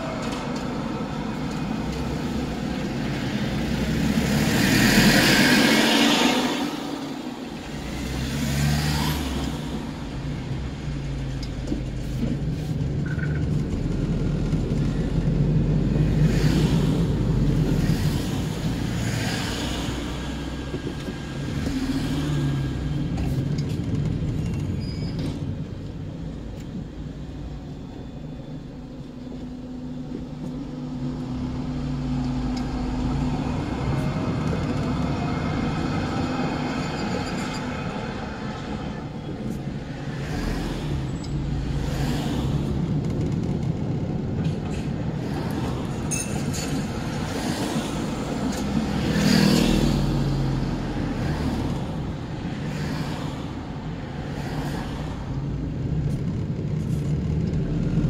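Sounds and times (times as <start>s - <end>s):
car engine and tyres rumbling: 0.0s - 58.0s
vehicles passing: 0.0s - 58.0s.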